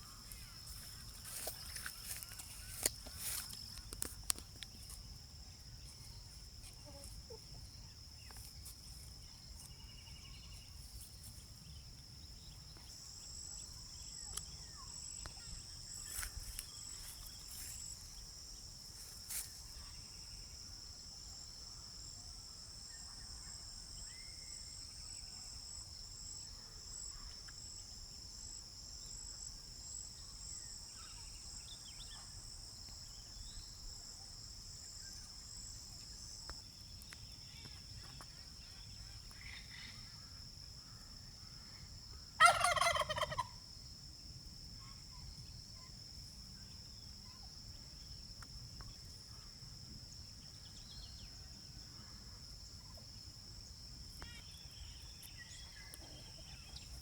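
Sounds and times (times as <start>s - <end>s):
higher pulsing insect trill: 0.0s - 57.0s
insects trilling: 0.0s - 57.0s.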